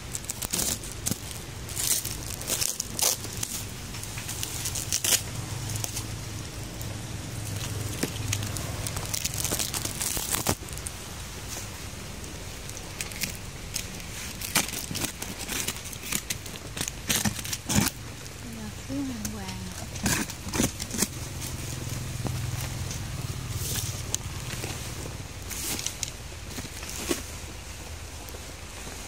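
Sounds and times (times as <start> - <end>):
plastic film crinkling: 0.0 - 29.0.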